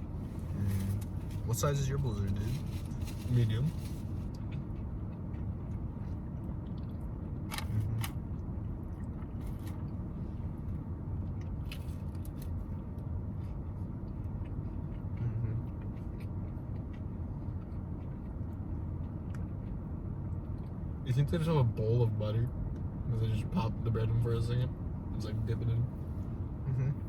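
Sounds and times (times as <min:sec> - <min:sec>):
car cabin rumble: 0:00.0 - 0:27.0.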